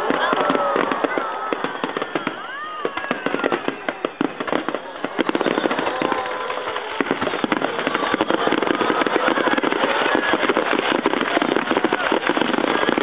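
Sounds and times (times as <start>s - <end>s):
firework whistles: 0.0s - 13.0s
fireworks bangs and crackling: 0.0s - 13.0s.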